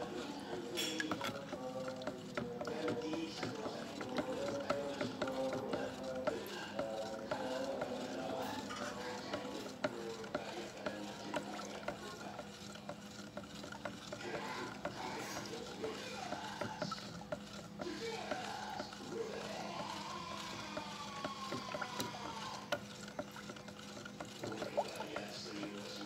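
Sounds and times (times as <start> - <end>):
stick stirring thick paint: 0.0 - 26.0.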